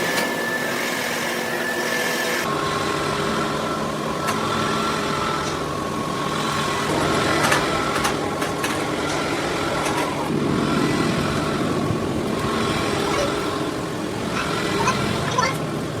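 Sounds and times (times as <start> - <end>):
machine running: 0.0 - 16.0.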